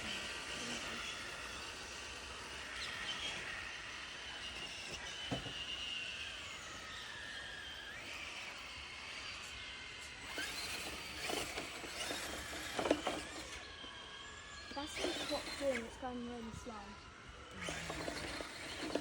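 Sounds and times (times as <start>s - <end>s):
rc truck electric motor whining: 0.0s - 19.0s.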